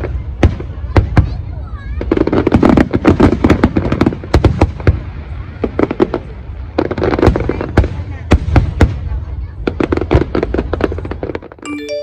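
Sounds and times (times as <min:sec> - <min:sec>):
fireworks bangs: 0:00.0 - 0:11.6
fireworks crackling: 0:00.0 - 0:11.9.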